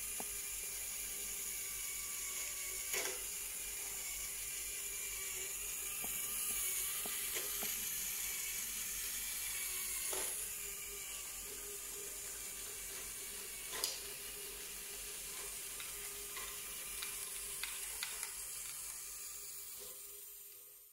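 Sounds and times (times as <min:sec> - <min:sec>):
motor hum: 0:00.0 - 0:20.9.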